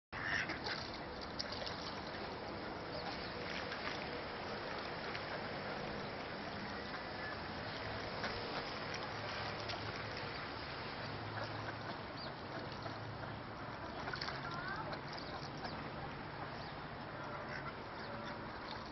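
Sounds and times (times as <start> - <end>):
creek water rushing: 0.2 - 18.9.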